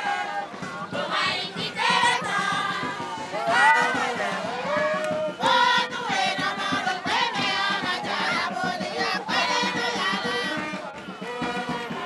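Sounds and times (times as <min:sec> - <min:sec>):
crowd singing in chorus: 0:00.0 - 0:12.0.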